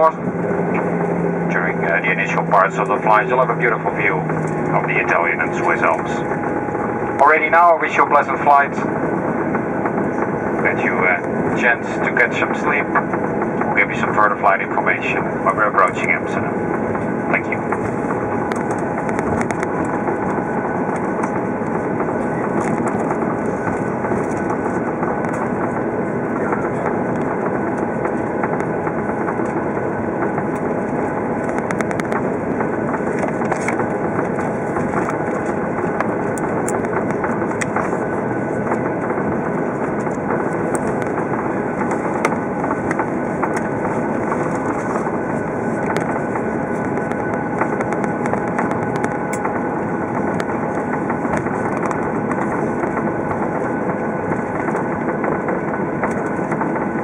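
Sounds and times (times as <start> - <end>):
jet engines idling in cabin: 0.0 - 57.0.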